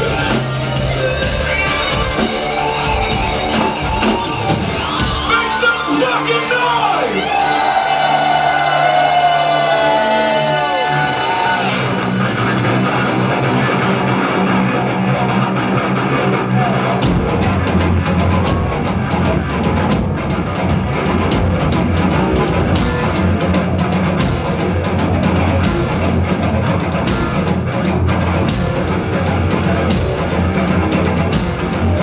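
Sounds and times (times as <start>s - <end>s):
drum kit: 0.0s - 14.7s, 16.8s - 32.0s
bass: 0.0s - 32.0s
electric guitar: 0.0s - 32.0s
keyboards: 0.0s - 32.0s.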